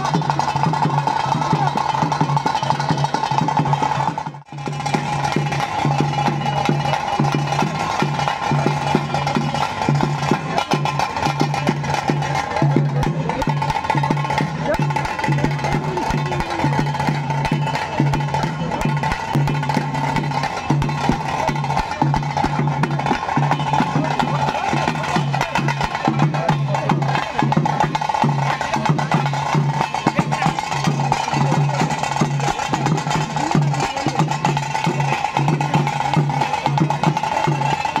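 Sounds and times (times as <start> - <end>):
drums beaten fast: 0.0 - 38.0.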